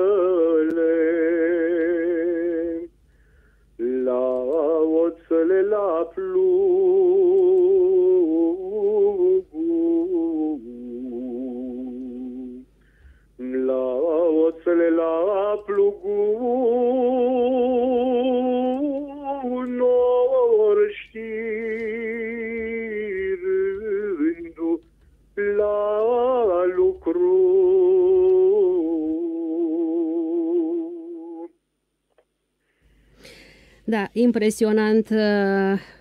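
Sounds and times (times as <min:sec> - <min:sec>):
man singing unaccompanied: 0:00.0 - 0:03.0, 0:03.8 - 0:12.8, 0:13.4 - 0:31.6.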